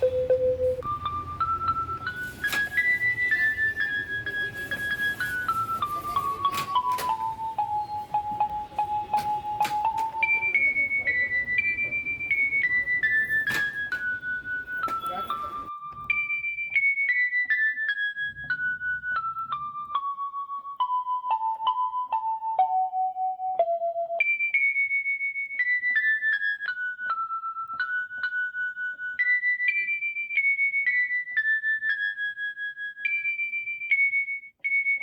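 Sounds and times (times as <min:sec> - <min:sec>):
electric piano melody: 0:00.0 - 0:34.1.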